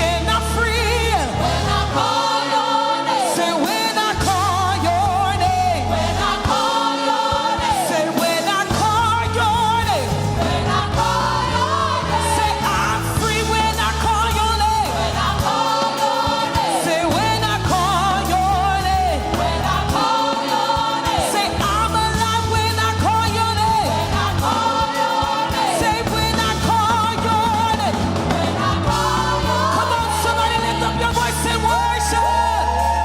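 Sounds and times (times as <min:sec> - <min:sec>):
backing singers: 0:00.0 - 0:33.0
band with steady bass: 0:00.0 - 0:33.0
lead vocal singing gospel: 0:00.0 - 0:33.0.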